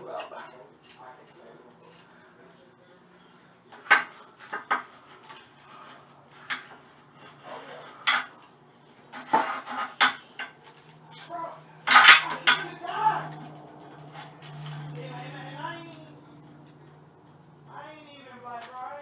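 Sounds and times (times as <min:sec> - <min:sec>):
tools clinking and scraping: 0:00.0 - 0:19.0.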